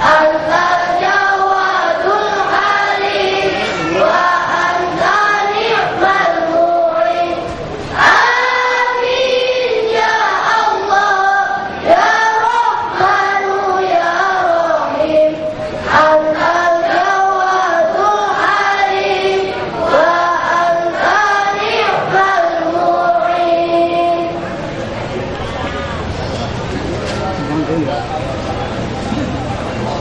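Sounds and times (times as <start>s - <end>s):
boys chanting in unison: 0.0s - 24.5s.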